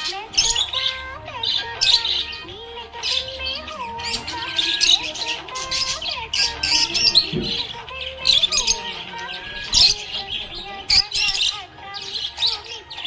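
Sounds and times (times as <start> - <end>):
background music with gliding melody: 0.0 - 13.0
budgerigar chirping and chattering: 0.0 - 13.0.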